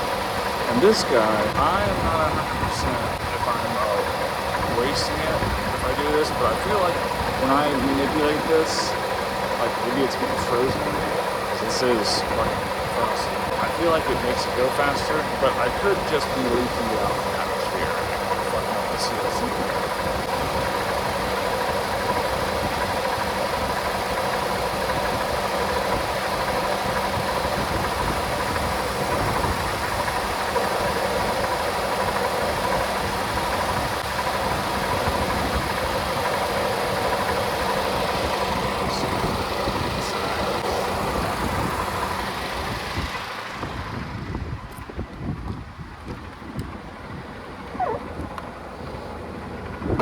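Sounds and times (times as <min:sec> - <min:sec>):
air conditioning whine: 0:00.0 - 0:50.0
vehicle engine idling: 0:00.0 - 0:50.0.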